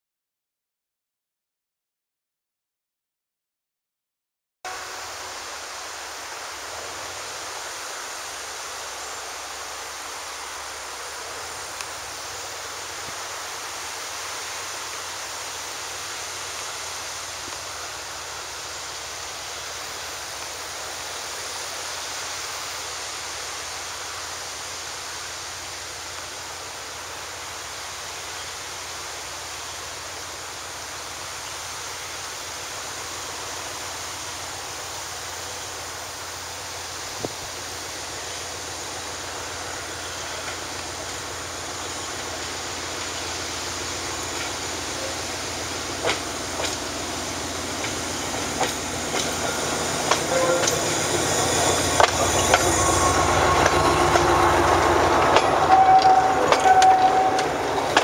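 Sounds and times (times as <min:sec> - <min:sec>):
distant diesel locomotive drone: 0:04.7 - 0:58.0
steady rushing hiss: 0:04.7 - 0:58.0.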